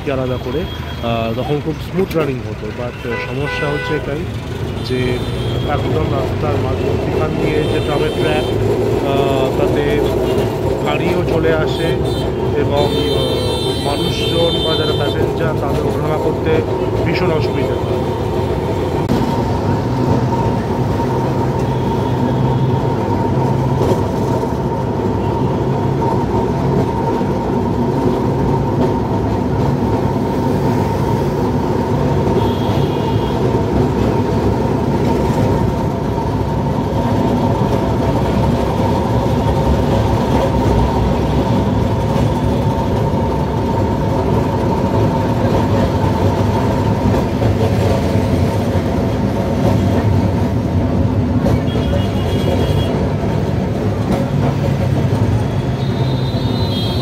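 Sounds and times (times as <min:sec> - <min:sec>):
tram wheels rumbling on rails: 0:00.0 - 0:57.0.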